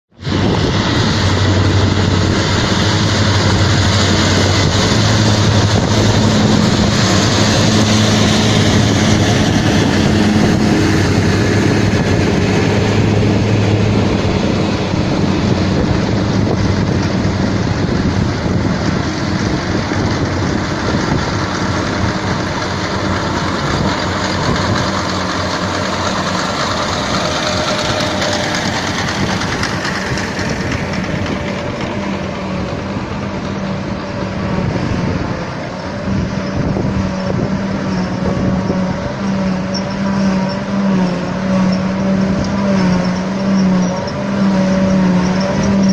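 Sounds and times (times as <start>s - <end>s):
mechanical rumble: 0.1s - 45.9s
tractor engine low hum: 0.1s - 45.9s.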